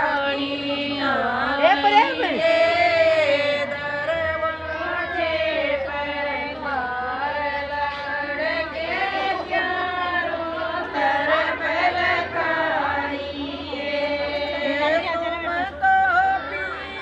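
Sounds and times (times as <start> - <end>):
women singing in unison: 0.0 - 17.0.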